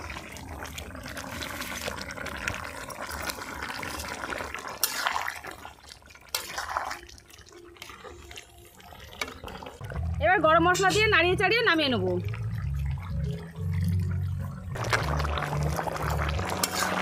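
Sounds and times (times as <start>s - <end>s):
curry bubbling in a pan: 0.0s - 10.2s, 11.4s - 17.0s.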